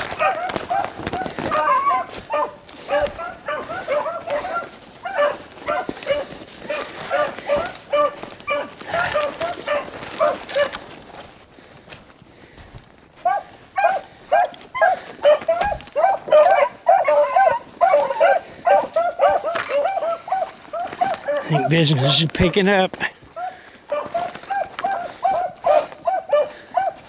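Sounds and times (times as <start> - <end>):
hounds baying: 0.0 - 11.3, 13.2 - 27.0.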